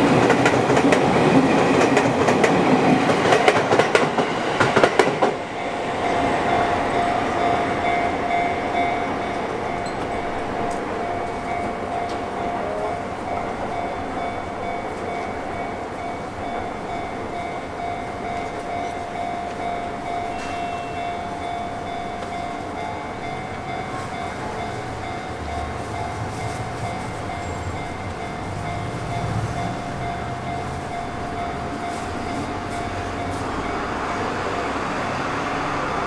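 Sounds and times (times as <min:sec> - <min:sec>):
electric train: 0:00.0 - 0:36.0
level crossing warning bell: 0:00.0 - 0:36.0.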